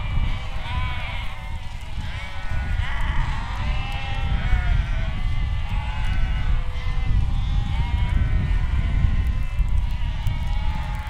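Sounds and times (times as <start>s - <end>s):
sheep bleating: 0.0s - 11.0s.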